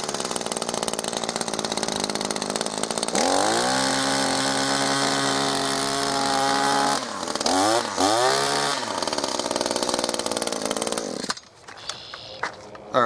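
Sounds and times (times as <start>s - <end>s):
string trimmer engine revving: 0.0s - 11.4s.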